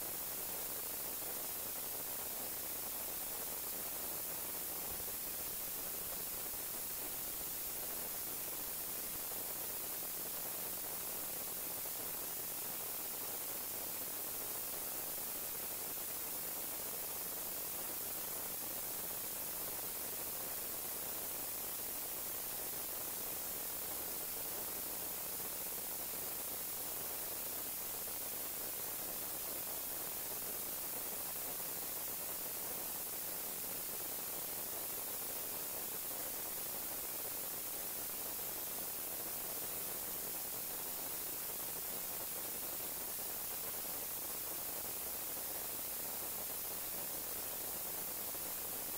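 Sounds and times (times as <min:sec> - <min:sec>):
static hiss: 0:00.0 - 0:48.9.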